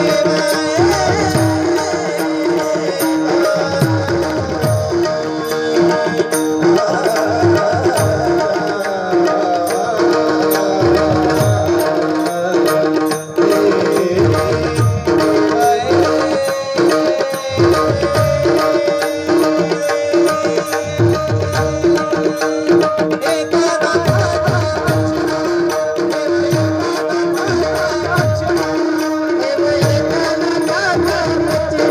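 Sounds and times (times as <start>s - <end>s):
tabla playing: 0.0s - 31.9s.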